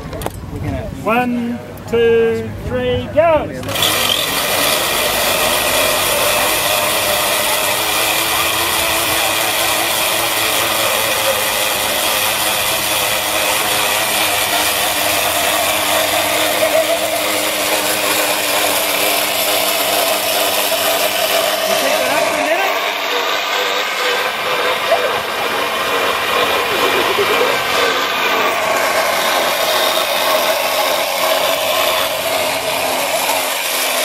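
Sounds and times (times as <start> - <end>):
blenders running: 3.6 - 34.0.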